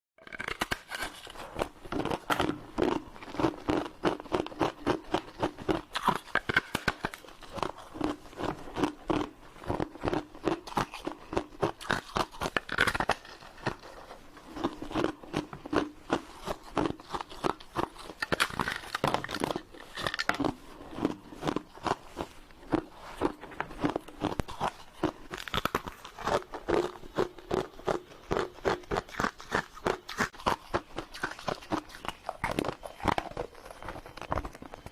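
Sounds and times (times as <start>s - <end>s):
crunching and chewing frozen foam: 0.2s - 34.9s.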